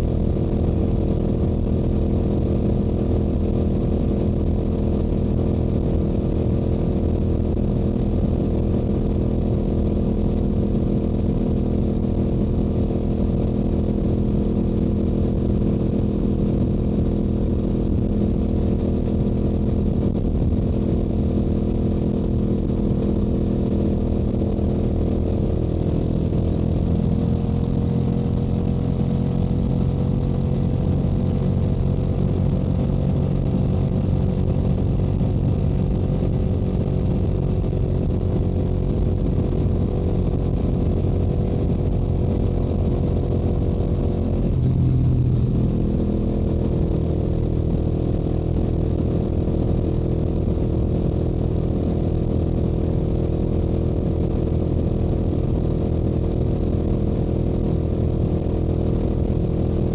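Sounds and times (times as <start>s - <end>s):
motorcycle engine and exhaust cruising: 0.0s - 59.9s.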